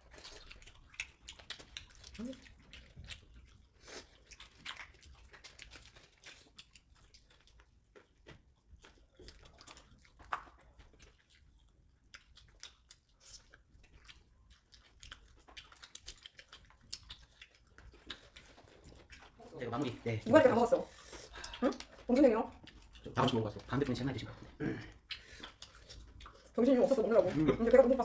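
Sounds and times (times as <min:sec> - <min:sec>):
chewing fried chicken: 0:00.0 - 0:28.0.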